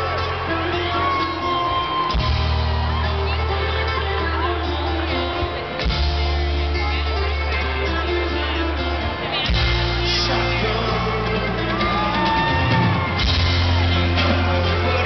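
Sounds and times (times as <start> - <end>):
lead vocal singing: 0.0 - 5.8, 7.6 - 15.0
bass guitar: 0.0 - 15.0
drums: 0.0 - 15.0
electric guitar: 0.0 - 15.0.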